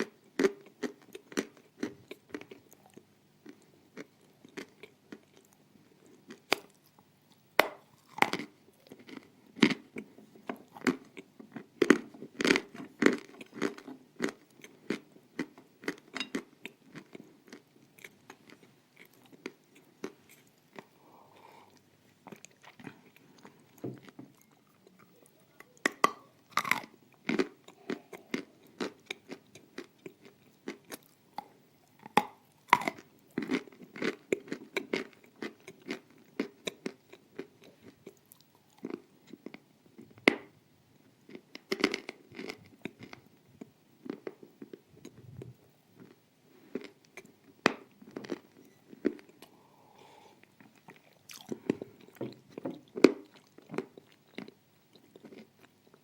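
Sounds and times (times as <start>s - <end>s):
crisp crunchy chewing: 0.0s - 40.1s, 41.3s - 49.5s, 50.4s - 56.0s.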